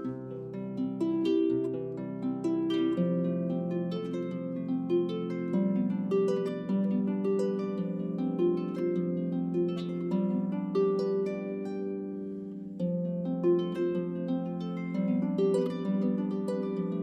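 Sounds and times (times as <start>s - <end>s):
solo harp music: 0.0s - 17.0s.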